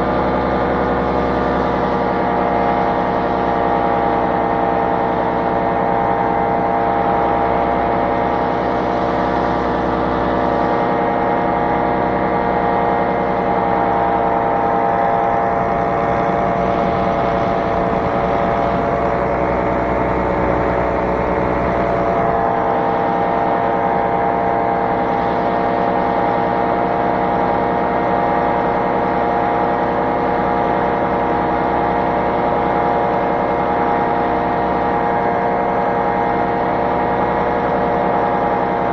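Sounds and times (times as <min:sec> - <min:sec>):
small aircraft engine in flight: 0:00.0 - 0:38.9.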